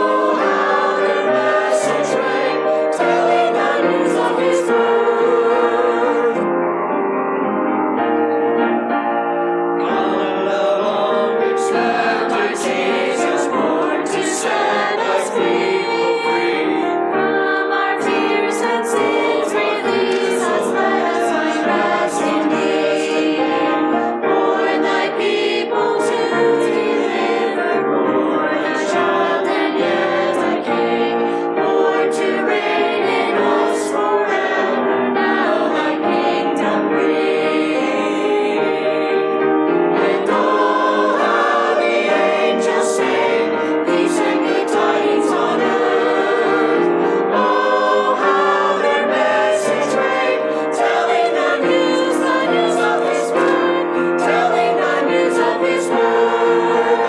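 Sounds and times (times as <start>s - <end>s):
choir singing with accompaniment: 0.0s - 57.0s.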